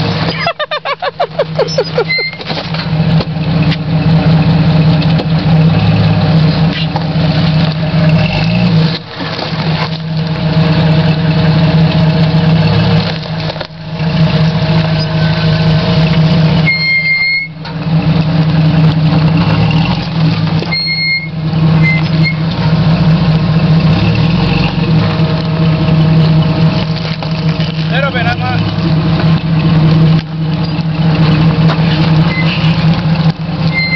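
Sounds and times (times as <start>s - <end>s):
engine running at low speed: 0.0s - 33.9s.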